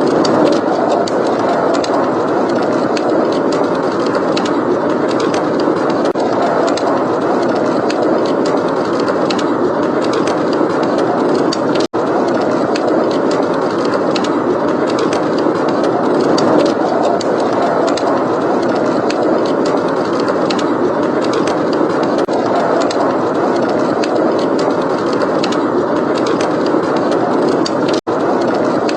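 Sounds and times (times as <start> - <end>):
blizzard wind rushing: 0.0 - 28.9
fireplace crackles: 0.0 - 28.9.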